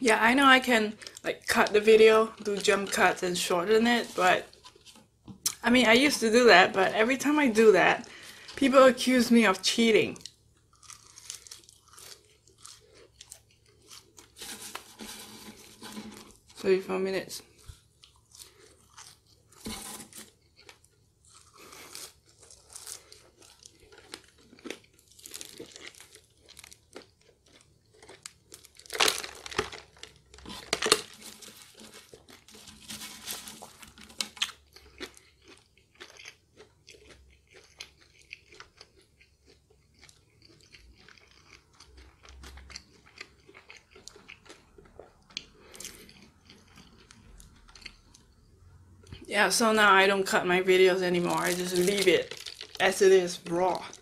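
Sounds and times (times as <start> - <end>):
chewing crisp fries: 7.2 - 16.6, 17.4 - 49.3, 50.9 - 54.0.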